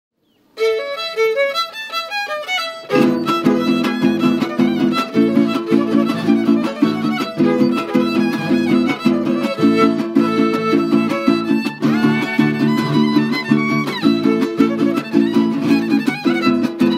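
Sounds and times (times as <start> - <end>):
violin melody: 0.5 - 16.9
strummed guitars: 0.6 - 16.9.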